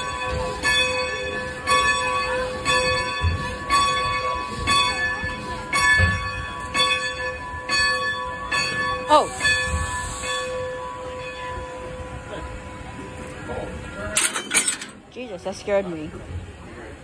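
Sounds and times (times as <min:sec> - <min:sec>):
locomotive bell ringing: 0:00.0 - 0:16.1.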